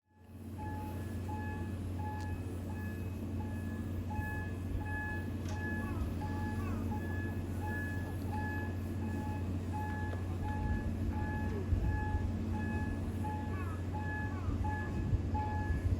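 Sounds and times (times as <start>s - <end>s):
low mechanical hum: 0.2s - 15.9s
short electronic alarm beeps: 0.6s - 15.9s.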